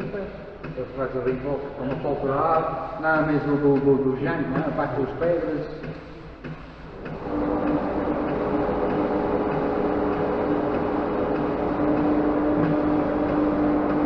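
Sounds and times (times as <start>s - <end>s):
workshop machine motor running: 0.0s - 14.0s.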